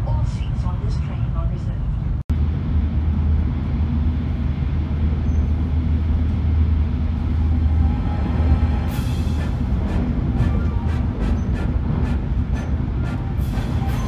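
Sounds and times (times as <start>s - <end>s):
low train drone: 0.0s - 14.0s
rushing noise: 2.3s - 14.0s.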